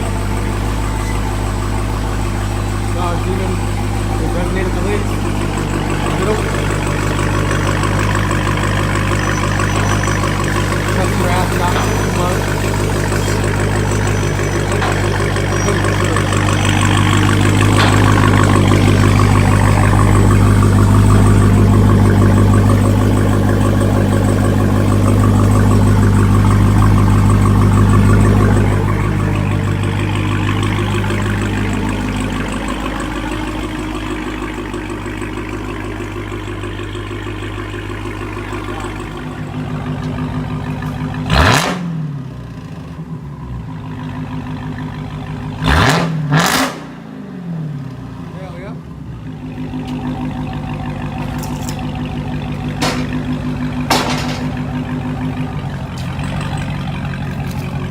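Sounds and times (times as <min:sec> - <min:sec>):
deep car engine exhaust note: 0:00.0 - 0:47.0.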